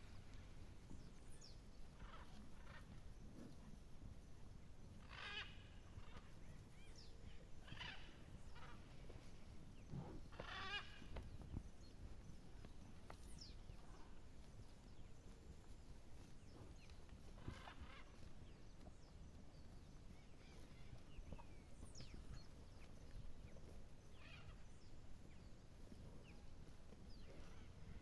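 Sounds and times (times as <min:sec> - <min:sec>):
farm animals calling: 0:00.0 - 0:03.7, 0:05.0 - 0:28.0.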